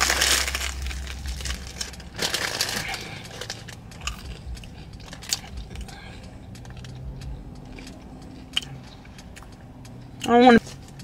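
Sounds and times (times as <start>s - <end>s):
clicks and rattles of objects handled: 0.0s - 10.0s.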